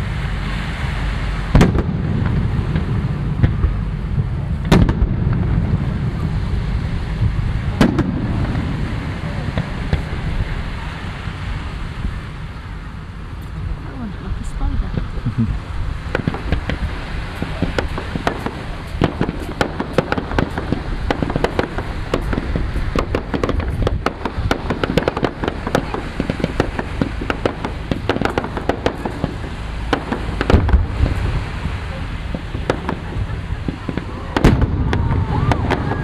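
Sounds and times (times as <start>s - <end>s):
deep firework boom: 0.0s - 13.8s, 14.8s - 36.0s
fireworks crackling bangs: 0.0s - 36.0s
low rumble: 0.0s - 36.0s.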